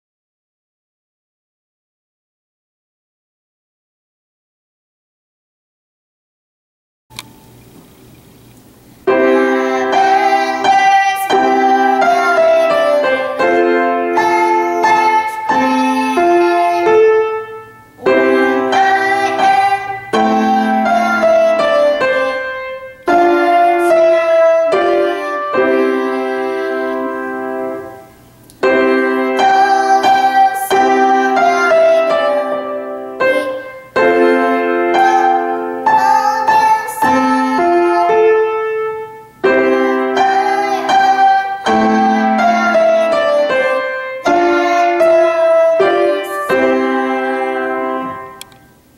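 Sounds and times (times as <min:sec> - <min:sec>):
piano playing: 0:09.0 - 0:48.9
girl singing: 0:09.1 - 0:48.8.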